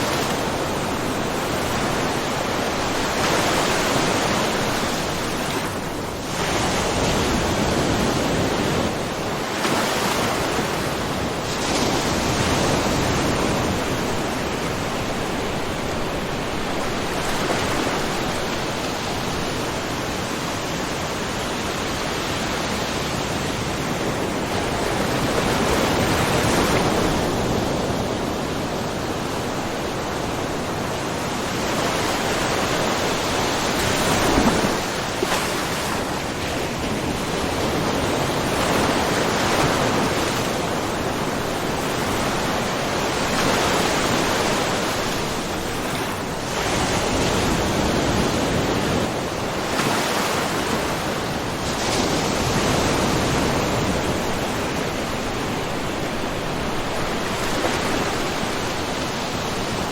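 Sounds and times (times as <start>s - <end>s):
waves washing against rocks: 0.0s - 20.6s, 23.6s - 59.9s.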